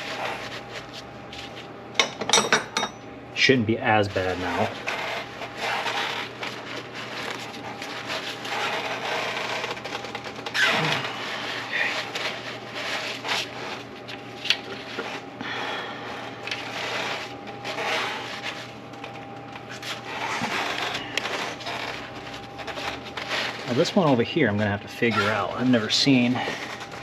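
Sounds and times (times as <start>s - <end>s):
hand tools rubbing and scraping: 0.0s - 3.0s, 4.1s - 27.0s.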